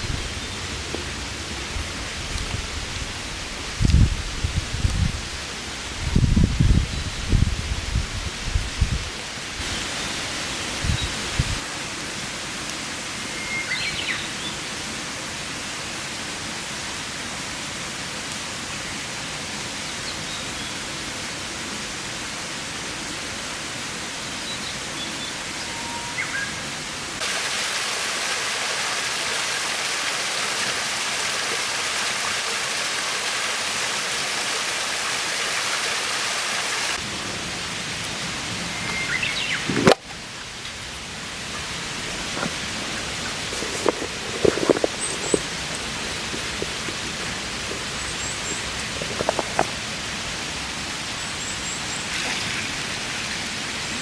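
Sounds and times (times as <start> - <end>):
rushing outdoor noise: 0.0 - 54.0.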